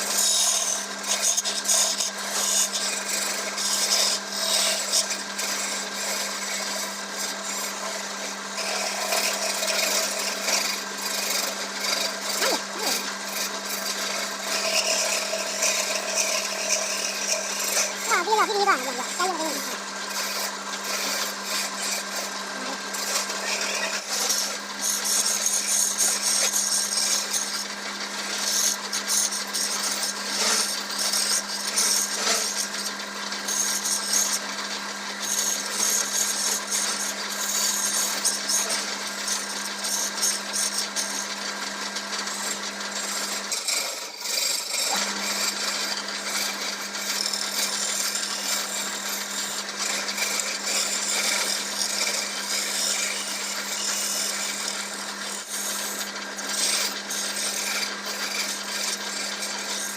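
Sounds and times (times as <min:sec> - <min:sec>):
lathe motor hum: 0:00.0 - 0:59.9
tool scraping spinning wood: 0:00.0 - 0:59.9.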